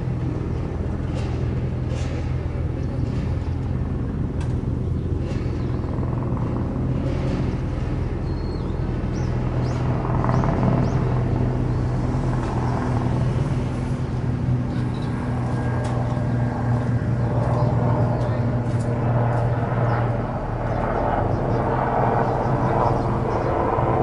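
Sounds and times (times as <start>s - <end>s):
low engine hum: 0.0s - 24.0s
outdoor background noise: 0.0s - 24.0s.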